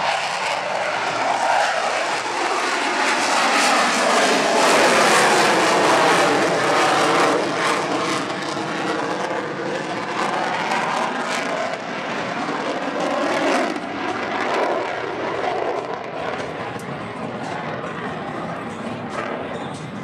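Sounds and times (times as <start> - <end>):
airplane flying past: 0.0 - 20.0.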